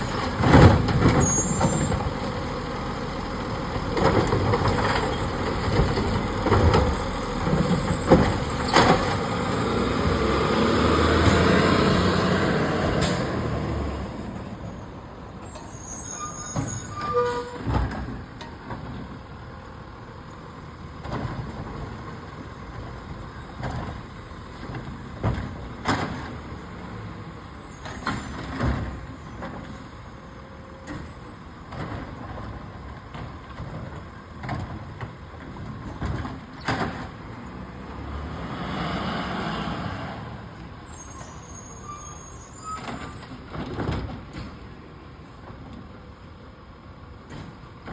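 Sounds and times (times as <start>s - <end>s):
garbage truck running: 0.0s - 47.9s.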